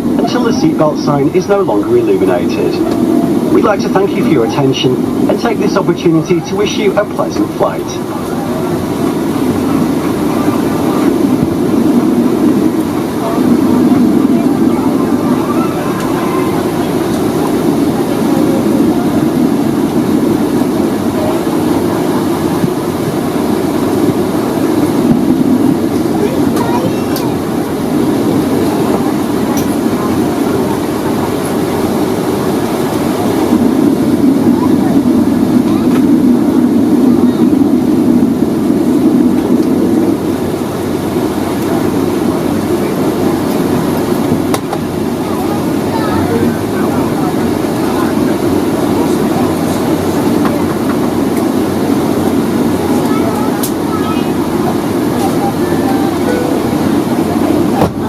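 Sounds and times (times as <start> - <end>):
aircraft cabin rumble and hum: 0.0 - 58.0.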